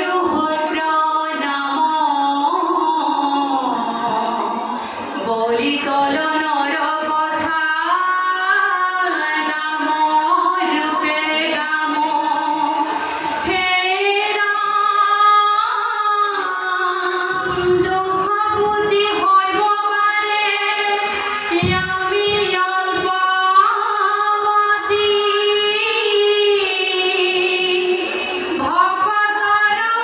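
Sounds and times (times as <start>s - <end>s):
women singing devotional song: 0.0s - 30.0s.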